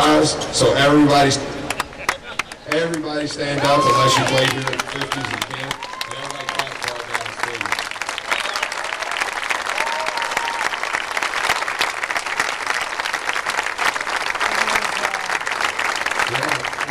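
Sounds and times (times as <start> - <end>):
crowd applauding: 1.6 - 16.9.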